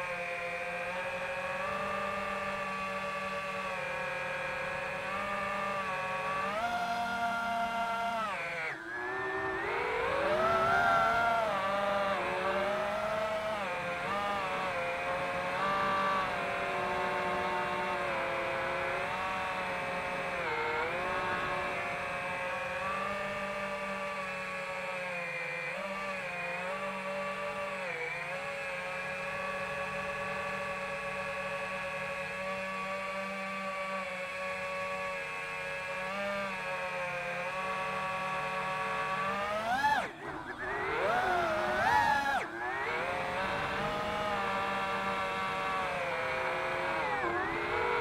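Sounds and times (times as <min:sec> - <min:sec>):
quadcopter motors whining: 0:00.0 - 0:48.0.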